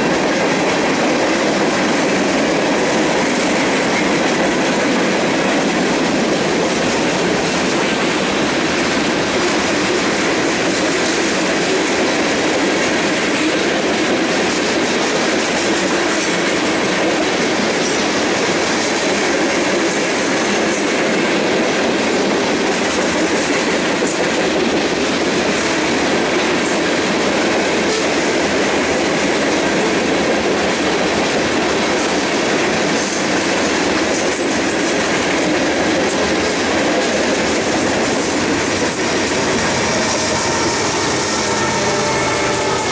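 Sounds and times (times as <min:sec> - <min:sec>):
train wheels clattering over rail joints: 0:00.0 - 0:42.9.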